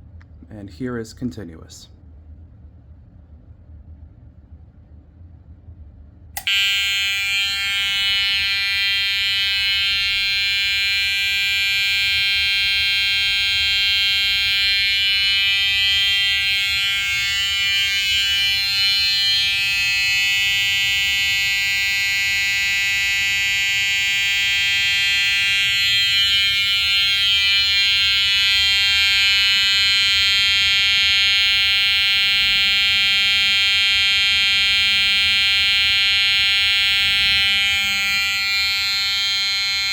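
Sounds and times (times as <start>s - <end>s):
fire alarm horn sounding: 6.4s - 39.9s.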